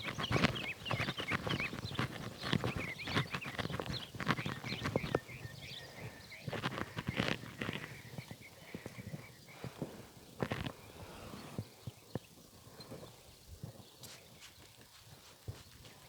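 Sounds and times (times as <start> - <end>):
horse hooves on hard ground: 0.0 - 16.0
small birds chirping: 0.0 - 16.0.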